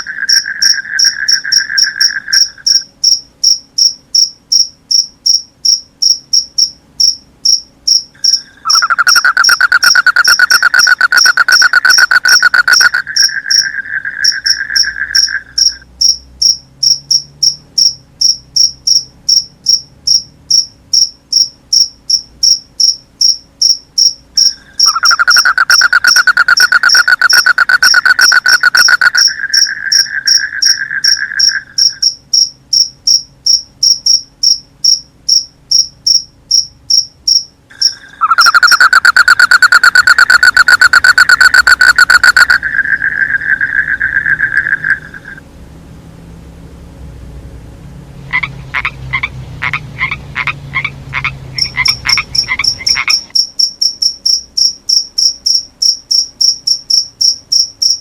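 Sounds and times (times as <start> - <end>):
crickets chirping: 0.0 - 45.4, 48.3 - 58.0
low rattling insect trill: 0.0 - 45.4, 51.6 - 58.0.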